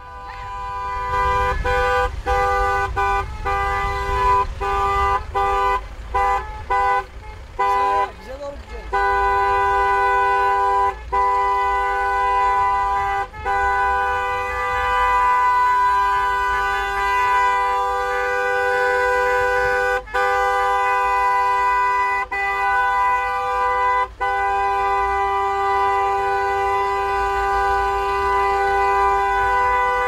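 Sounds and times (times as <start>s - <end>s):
two-tone car horn: 0.0s - 30.0s.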